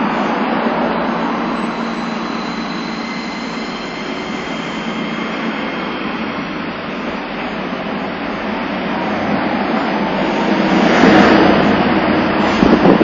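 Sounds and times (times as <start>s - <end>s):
high motor whine: 0.0s - 13.0s
tram running noise: 0.0s - 13.0s.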